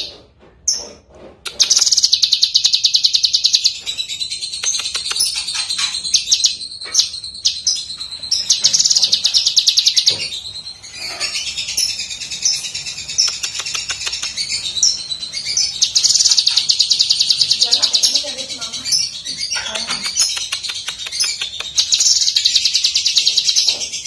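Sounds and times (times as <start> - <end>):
bird singing chirps and trills: 0.0 - 24.0.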